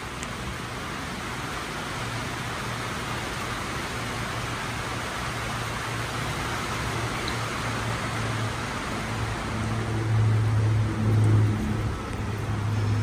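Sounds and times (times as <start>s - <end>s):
low steady hum: 0.0s - 13.0s
steady rain falling: 0.0s - 13.0s.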